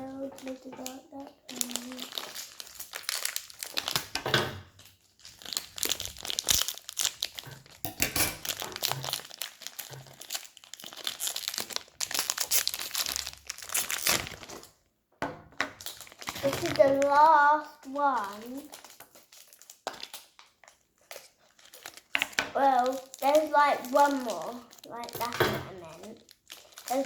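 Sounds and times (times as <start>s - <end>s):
packaging crinkling and tearing: 0.0s - 14.8s, 15.6s - 27.0s.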